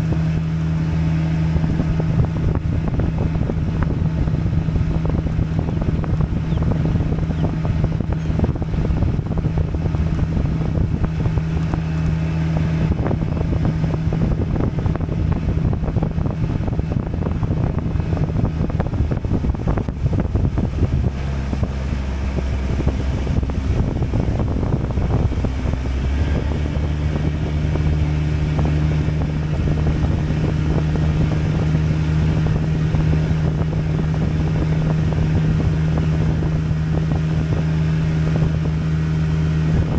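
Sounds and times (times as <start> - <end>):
small boat motor running: 0.0 - 39.9
wind on microphone: 0.0 - 39.9.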